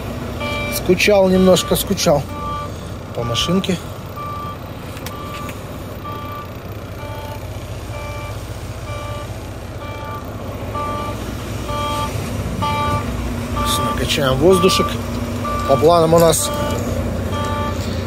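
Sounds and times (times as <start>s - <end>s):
diesel engine idling: 0.0s - 18.0s
two-note warning chime beeping: 0.4s - 5.4s, 6.0s - 17.9s.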